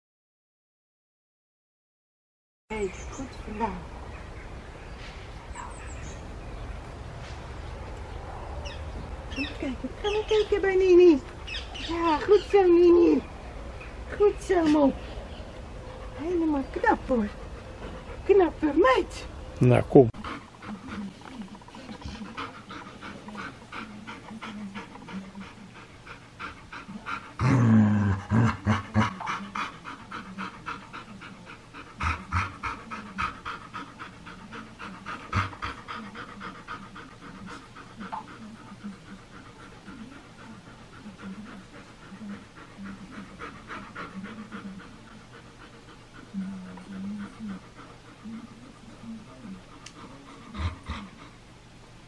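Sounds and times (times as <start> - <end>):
dog panting: 7.6 - 51.7.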